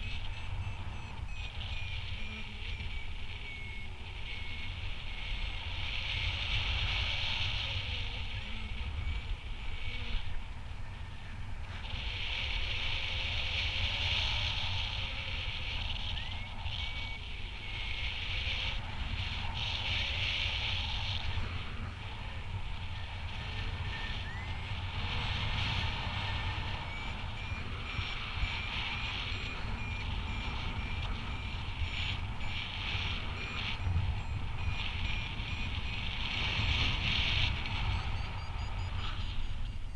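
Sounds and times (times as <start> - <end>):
variometer beeping: 0.0 - 10.4, 13.0 - 39.9
wind rumbling on microphone: 0.0 - 39.9.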